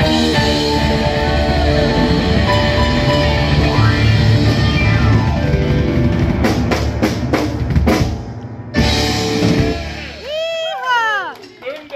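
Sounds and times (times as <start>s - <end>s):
drum and cymbal hits: 0.0s - 10.2s
rock band playing: 0.0s - 10.8s.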